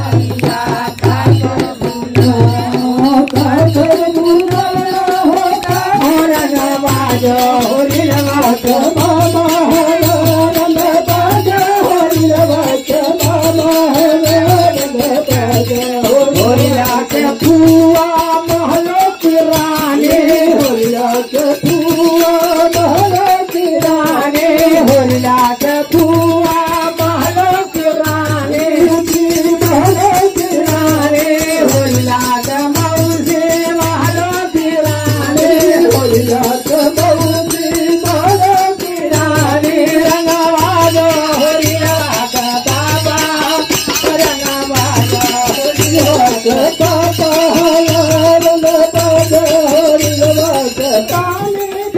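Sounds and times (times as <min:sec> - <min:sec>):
devotional folk singing: 0:00.0 - 0:51.9
hand drum beat: 0:00.0 - 0:51.9
metal hand cymbals rattling: 0:00.0 - 0:51.9.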